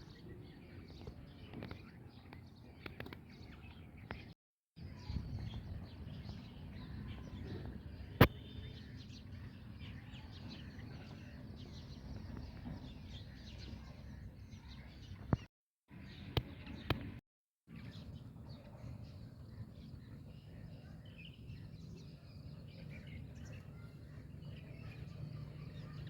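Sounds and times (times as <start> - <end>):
bird chirping and twittering: 0.0 - 26.0.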